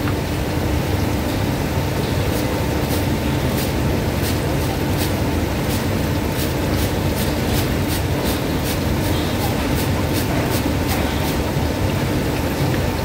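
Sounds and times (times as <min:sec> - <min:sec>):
fries sizzling in oil: 0:00.0 - 0:13.0.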